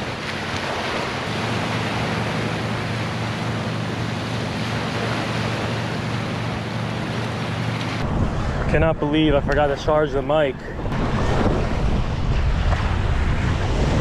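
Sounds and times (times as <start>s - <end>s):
waves lapping on shore: 0.0s - 14.0s.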